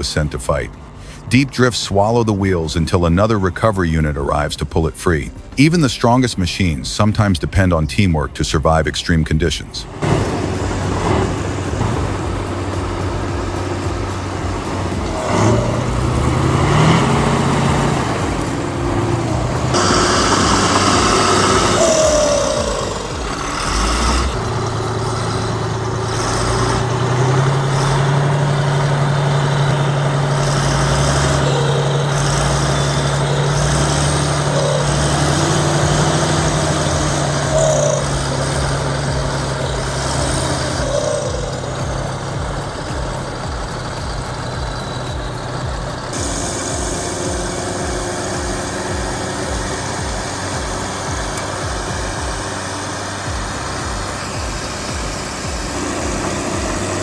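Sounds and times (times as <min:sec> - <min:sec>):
heavy vehicle engine running: 0:00.0 - 0:57.0.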